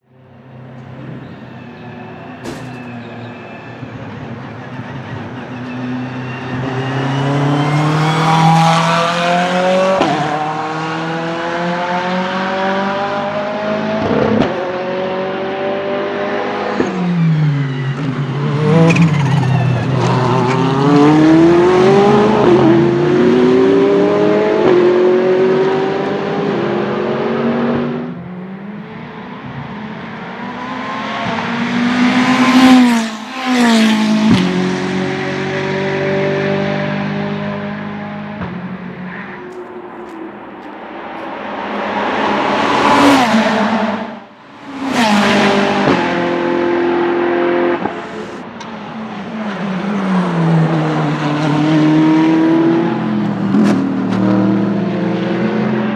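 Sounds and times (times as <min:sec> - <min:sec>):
race car engine accelerating: 0:00.1 - 0:55.9.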